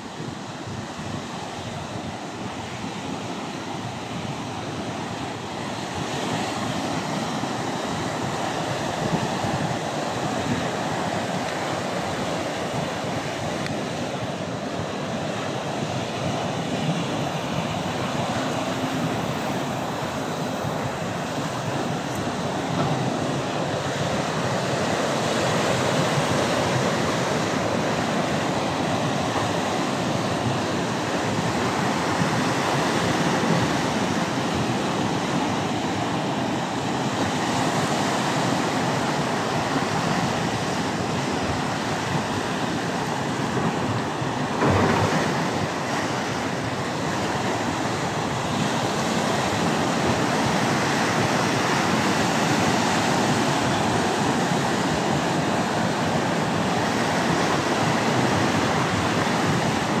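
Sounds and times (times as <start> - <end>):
surf washing over rocks: 0.0 - 60.0.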